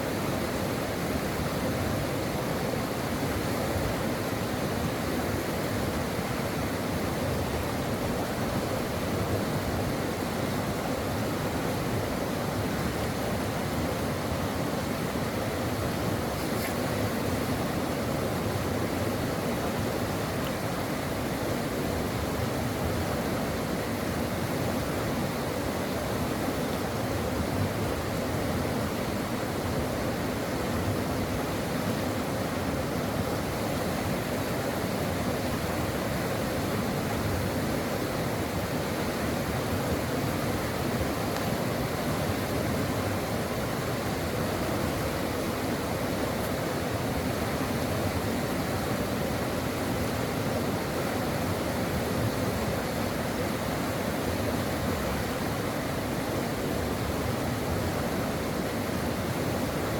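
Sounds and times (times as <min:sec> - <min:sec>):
stream water flowing over rocks: 0:00.0 - 0:59.9.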